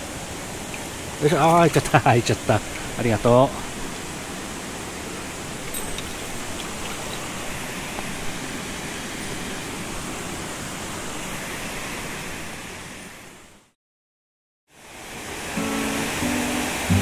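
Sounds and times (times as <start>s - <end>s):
stream water rushing: 0.0s - 13.5s, 14.8s - 17.0s.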